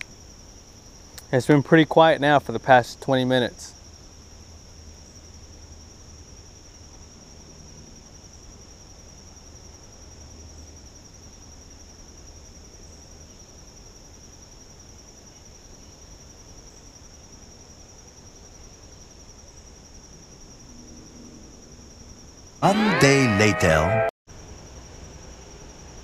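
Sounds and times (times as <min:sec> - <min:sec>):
insect chorus trilling: 0:00.0 - 0:22.6.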